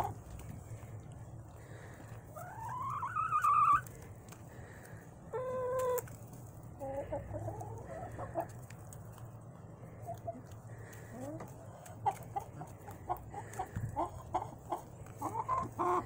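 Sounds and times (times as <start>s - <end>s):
hens soft quavering clucks: 0.0s - 16.0s.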